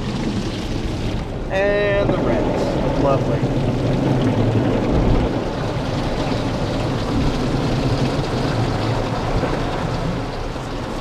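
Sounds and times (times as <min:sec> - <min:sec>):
car wash spray and machinery: 0:00.0 - 0:11.0.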